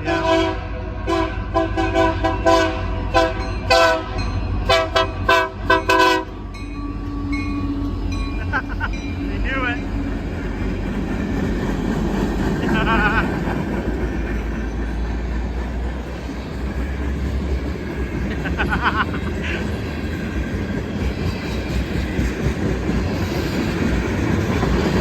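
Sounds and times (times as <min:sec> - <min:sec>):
train rumble and wheel clatter: 0:00.0 - 0:25.0.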